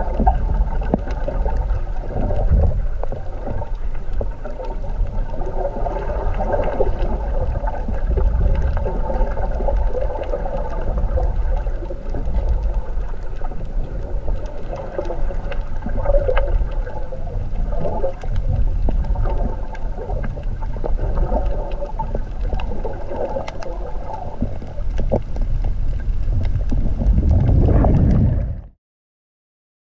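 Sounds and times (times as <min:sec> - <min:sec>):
faint underwater clicks: 0:00.0 - 0:28.7
underwater rumble of moving water: 0:00.0 - 0:28.8.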